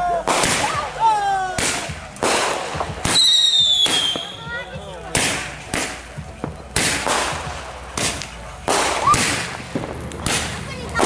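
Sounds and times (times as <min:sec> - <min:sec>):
fireworks bangs echoing: 0:00.0 - 0:11.0.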